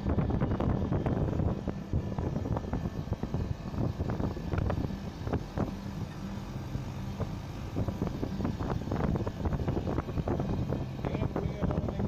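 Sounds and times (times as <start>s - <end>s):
air conditioner unit humming: 0.0s - 12.0s
wind on microphone: 0.0s - 12.0s.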